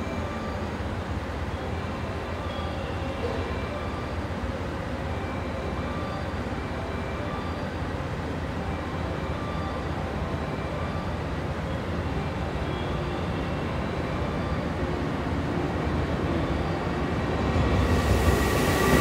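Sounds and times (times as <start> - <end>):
approaching freight train: 0.0 - 19.0.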